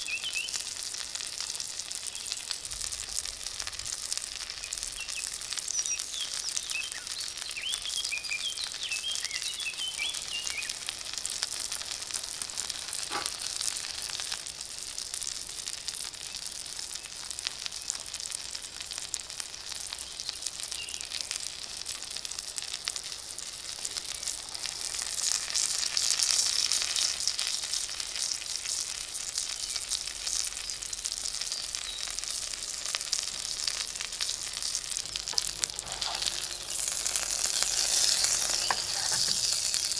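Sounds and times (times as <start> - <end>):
steak sizzling in a pan: 0.0 - 39.9.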